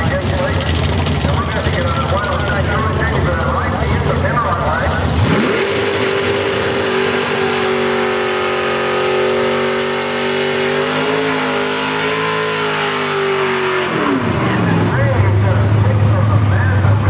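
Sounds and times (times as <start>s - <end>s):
engine at high revs: 0.0s - 17.0s.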